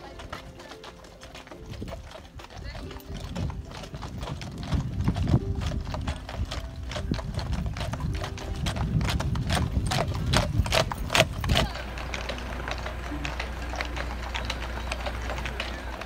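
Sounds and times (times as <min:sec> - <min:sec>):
horse hooves clip-clopping on pavement: 0:00.0 - 0:16.0.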